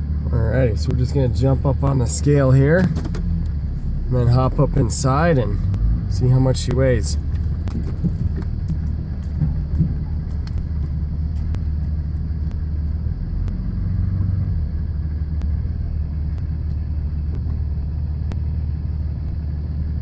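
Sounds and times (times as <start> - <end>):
truck engine rumble: 0.0 - 20.0.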